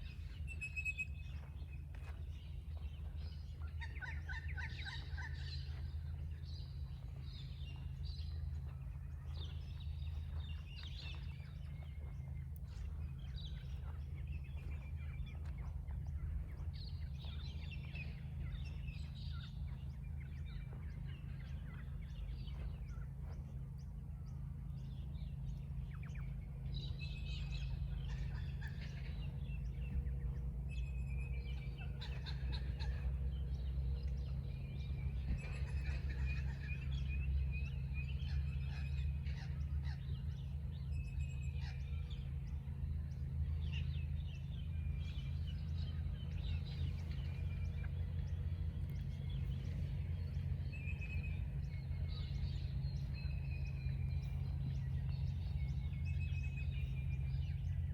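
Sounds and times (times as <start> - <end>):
birds chirping: 0.0 - 57.9
low rumble: 0.0 - 57.9.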